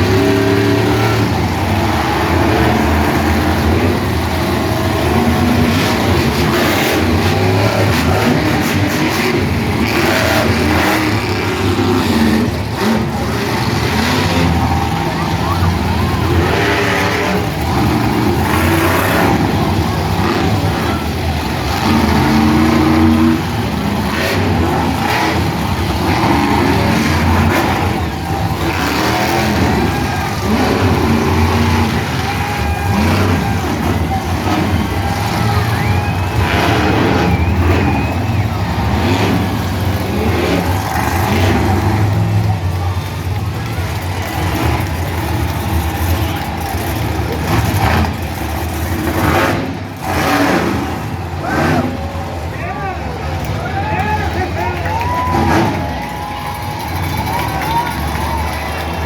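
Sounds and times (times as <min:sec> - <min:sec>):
crowd voices: 0:00.0 - 0:59.0
truck engines revving: 0:00.0 - 0:59.0.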